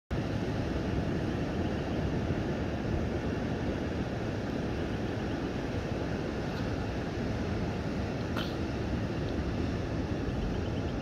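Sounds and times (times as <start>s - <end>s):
low rumbling background noise: 0.1s - 11.0s.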